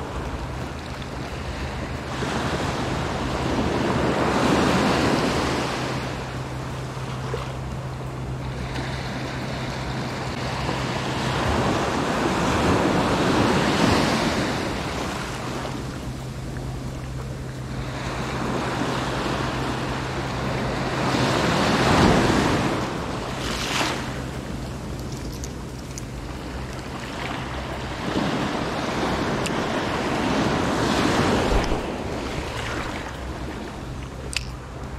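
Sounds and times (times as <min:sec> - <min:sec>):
small waves breaking on sand: 0:00.0 - 0:07.7, 0:08.4 - 0:34.8.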